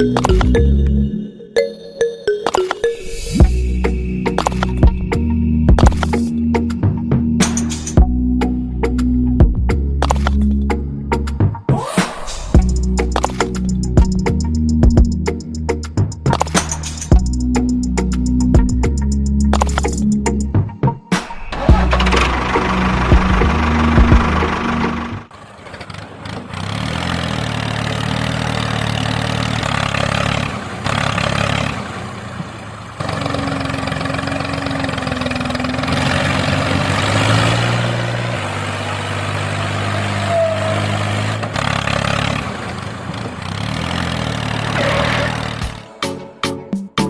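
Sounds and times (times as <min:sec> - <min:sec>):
vehicle engine running: 0:00.0 - 0:01.1, 0:03.3 - 0:11.6, 0:12.4 - 0:20.8, 0:21.4 - 0:46.0.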